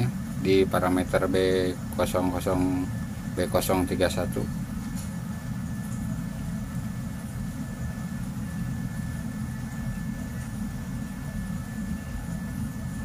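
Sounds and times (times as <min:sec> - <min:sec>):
faint high whine: 0:00.0 - 0:13.0
low mechanical hum: 0:00.0 - 0:13.0.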